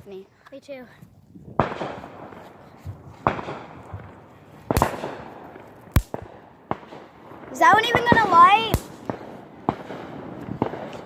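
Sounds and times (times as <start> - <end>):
fireworks bangs: 1.5 - 11.0.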